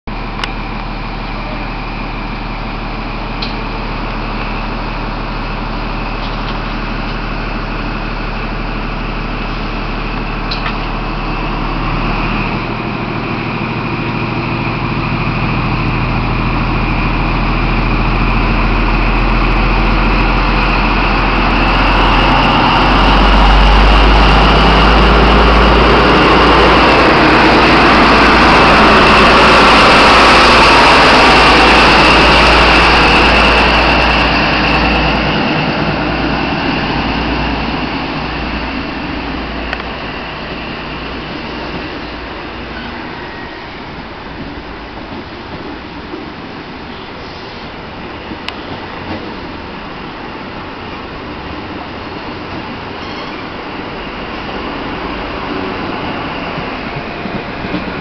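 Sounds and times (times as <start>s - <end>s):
deep train rumble: 0.1s - 58.0s
diesel train engine: 0.1s - 58.0s
high engine whine: 0.1s - 58.0s.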